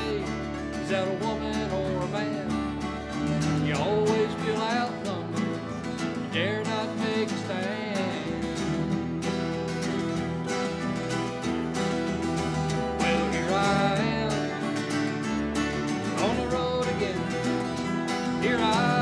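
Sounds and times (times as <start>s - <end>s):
acoustic guitars strumming chords: 0.0s - 19.0s
bending guitar melody: 0.0s - 19.0s.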